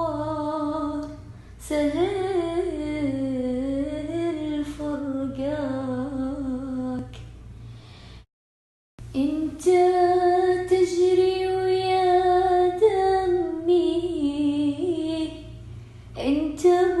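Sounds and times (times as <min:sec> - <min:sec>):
woman singing without words: 0:00.0 - 0:07.2, 0:09.1 - 0:15.5, 0:16.2 - 0:17.0.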